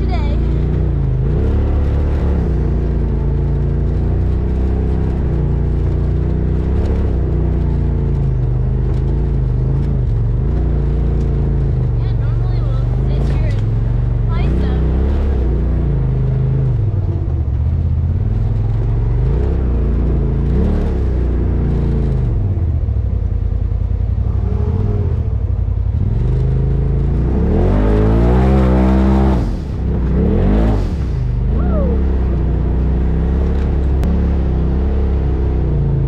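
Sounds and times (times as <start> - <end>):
engine revving under load: 0.0 - 22.8, 24.2 - 36.0.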